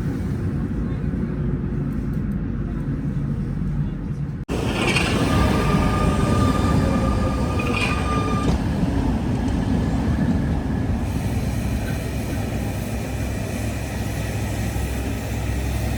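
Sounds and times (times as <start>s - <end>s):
tram rumbling on rails: 0.0s - 15.9s.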